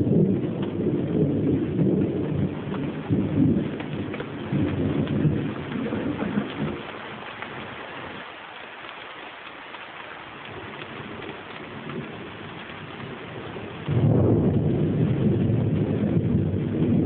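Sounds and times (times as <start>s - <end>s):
thunder rumbling: 0.0s - 8.3s, 10.4s - 17.0s
rain drops ticking: 0.0s - 17.0s
rain hissing: 0.0s - 17.0s.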